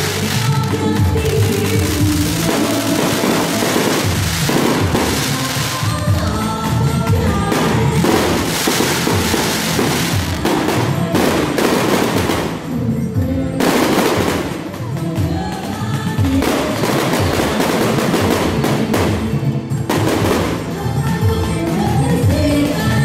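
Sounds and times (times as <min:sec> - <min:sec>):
fireworks bangs and crackles: 0:00.0 - 0:21.3
music playing: 0:00.0 - 0:23.0.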